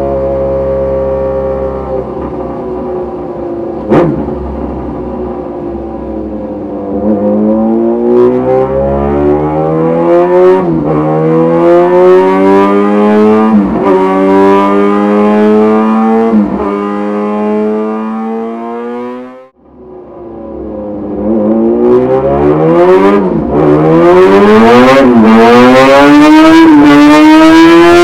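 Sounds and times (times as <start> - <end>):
motorcycle accelerating through gears: 0.0 - 19.5, 20.5 - 28.0.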